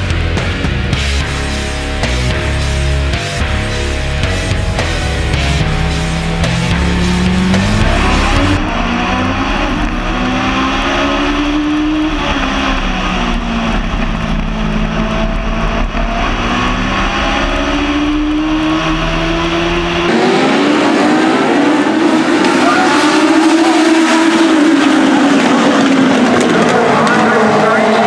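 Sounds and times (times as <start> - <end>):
race car engine revving: 0.0 - 28.0
rock music: 0.0 - 28.0
race cars passing: 3.6 - 28.0.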